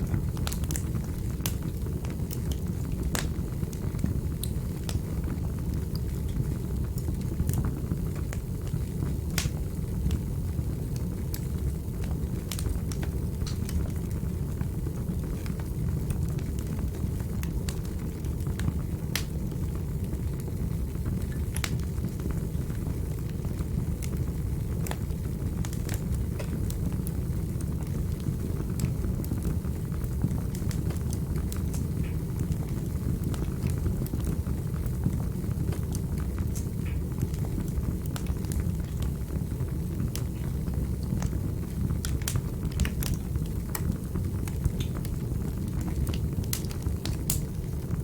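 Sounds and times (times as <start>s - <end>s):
burning wood crackling and popping: 0.0s - 48.0s
fireplace fire burning: 0.0s - 48.0s.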